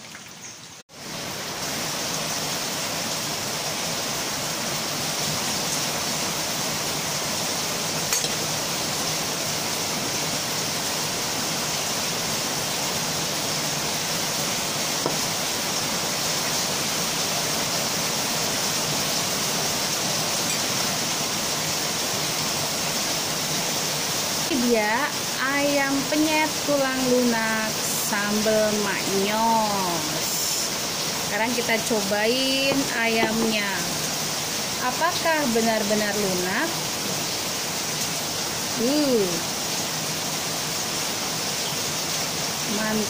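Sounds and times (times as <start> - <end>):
heavy rain hissing: 0.8 - 43.0.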